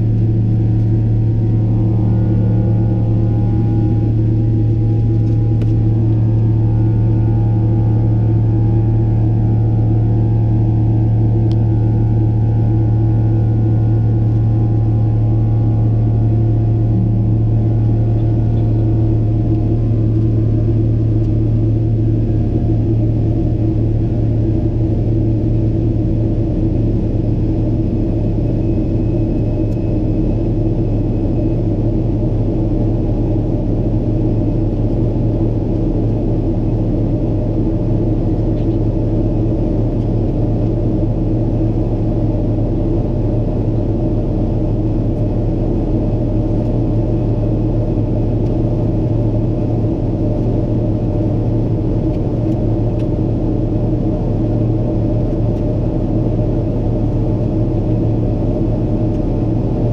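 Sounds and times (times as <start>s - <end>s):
airplane engines droning: 0.0s - 59.9s.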